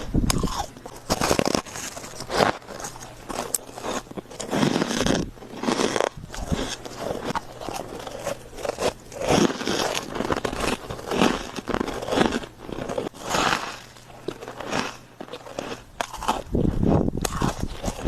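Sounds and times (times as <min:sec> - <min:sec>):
chewing crunching ice: 0:00.0 - 0:18.0.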